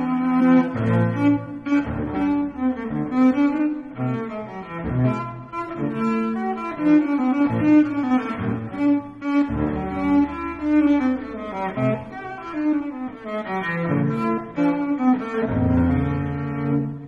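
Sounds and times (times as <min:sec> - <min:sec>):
low bowed strings playing: 0:00.0 - 0:17.0.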